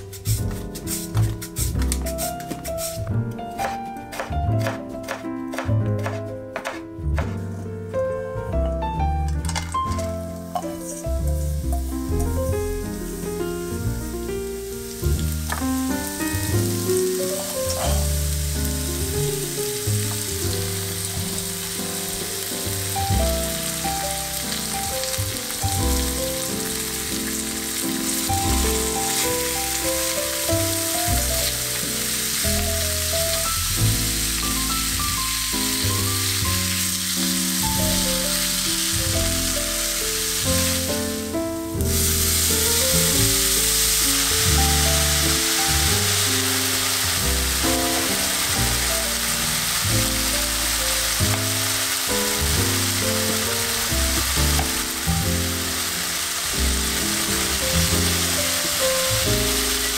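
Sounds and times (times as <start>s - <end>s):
vegetables sizzling in oil: 0.0s - 3.0s, 9.8s - 59.9s
soft background music: 0.0s - 59.9s.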